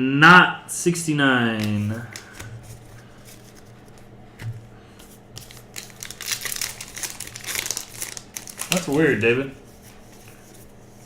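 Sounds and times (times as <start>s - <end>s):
cards sliding and rustling: 1.5s - 11.0s.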